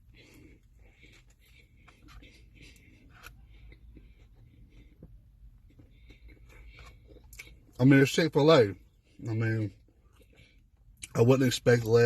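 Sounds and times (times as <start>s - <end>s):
man chewing: 0.0s - 8.1s, 8.7s - 11.2s
low steady hum: 0.0s - 12.0s.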